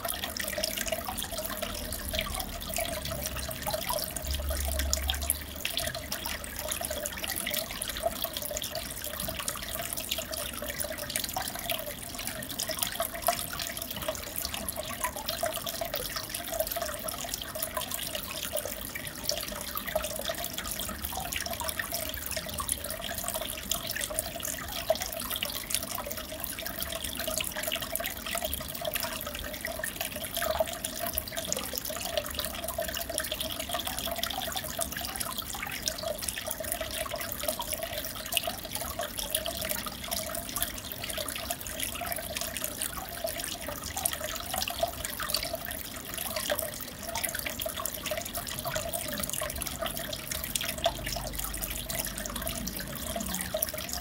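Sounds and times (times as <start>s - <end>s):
aquarium water bubbling: 0.0s - 54.0s.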